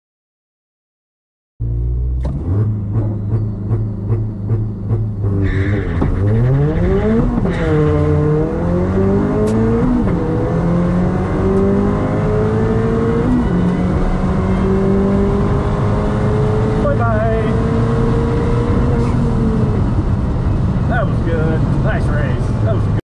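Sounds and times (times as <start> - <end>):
car engine accelerating through gears: 1.6 - 23.0.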